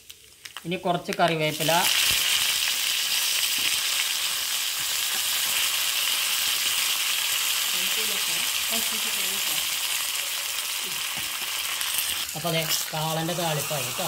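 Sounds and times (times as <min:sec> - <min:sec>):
spices sizzling in hot oil: 0:00.0 - 0:14.0.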